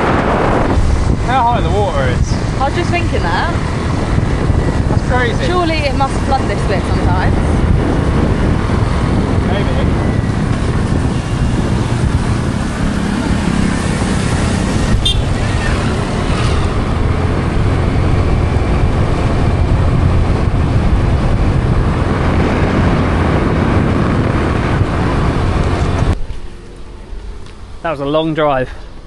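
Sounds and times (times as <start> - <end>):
road rumble: 0.0 - 29.0.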